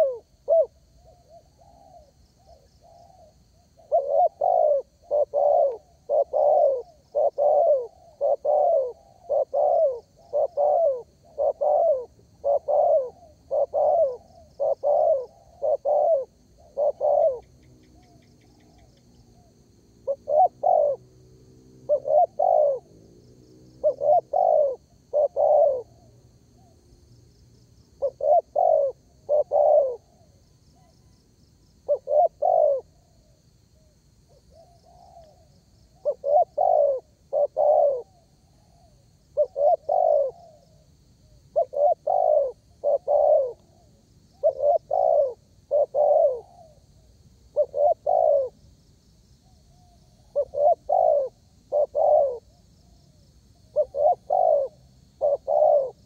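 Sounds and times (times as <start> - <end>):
dove cooing: 0.0 - 21.2, 21.8 - 26.9, 27.9 - 31.1, 31.8 - 48.6, 49.4 - 56.0.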